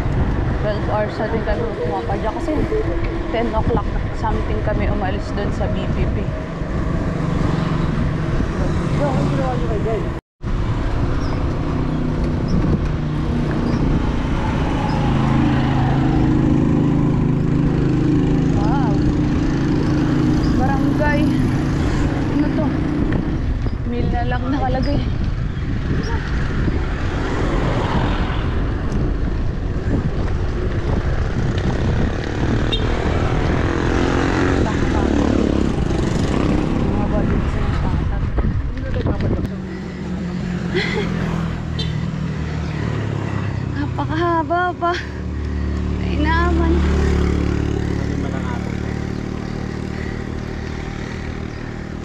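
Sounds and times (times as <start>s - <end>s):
wind buffeting microphone: 0.0s - 43.7s.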